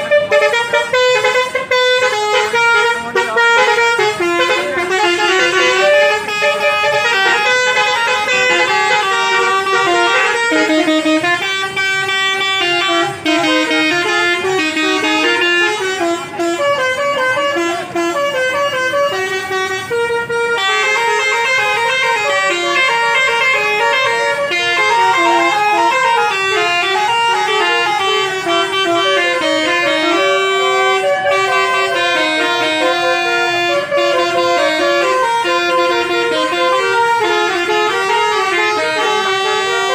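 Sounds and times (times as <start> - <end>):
musical bus air horn tune: 0.0 - 39.9.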